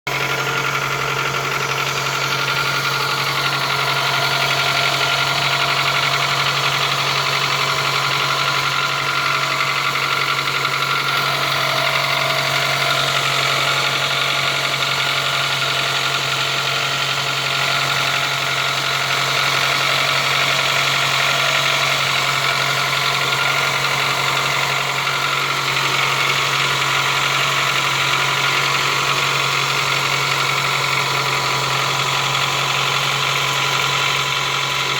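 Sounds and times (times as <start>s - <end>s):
car engine idling with knock: 0.1s - 34.9s.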